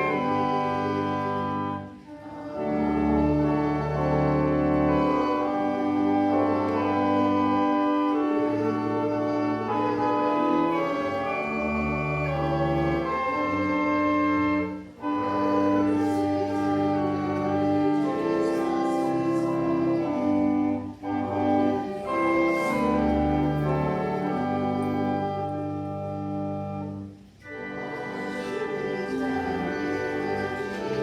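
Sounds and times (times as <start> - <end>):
church organ playing a hymn: 0.0 - 31.0.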